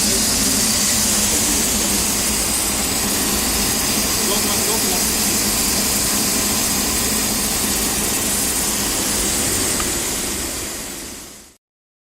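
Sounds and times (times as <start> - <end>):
loud even hiss: 0.0 - 11.6
running machinery rumble: 0.0 - 11.6.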